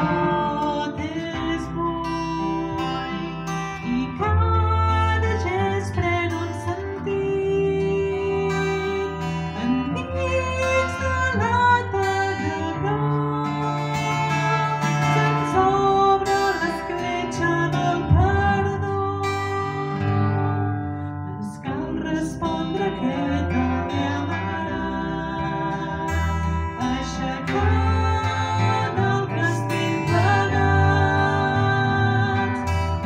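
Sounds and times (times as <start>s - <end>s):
guitars plucked and strummed: 0.0s - 33.0s.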